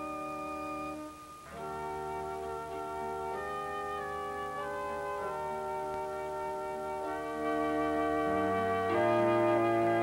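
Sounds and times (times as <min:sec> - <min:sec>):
slow sustained background music: 0:00.0 - 0:10.0.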